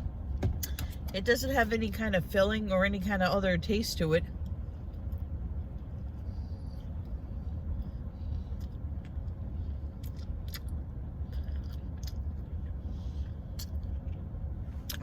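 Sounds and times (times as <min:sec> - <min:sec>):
low rumble inside car cabin: 0:00.0 - 0:15.0.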